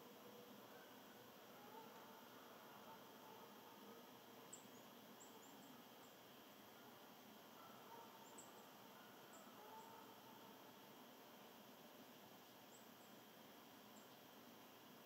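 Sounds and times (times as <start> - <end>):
soft steady hiss: 0.0 - 15.0.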